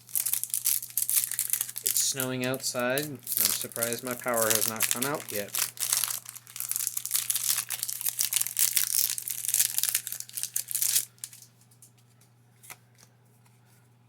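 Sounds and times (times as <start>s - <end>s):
foil wrapper tearing and crinkling: 0.0s - 11.5s.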